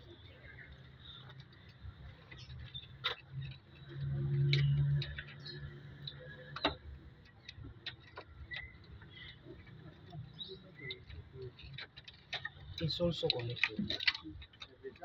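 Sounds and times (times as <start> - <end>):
hand tools tapping engine parts: 0.8 - 15.0.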